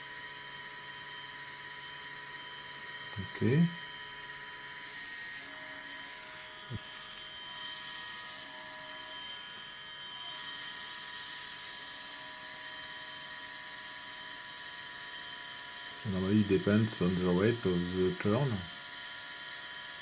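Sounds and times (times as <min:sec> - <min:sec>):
gyroscope rotor whining: 0:02.0 - 0:15.4, 0:16.0 - 0:18.9.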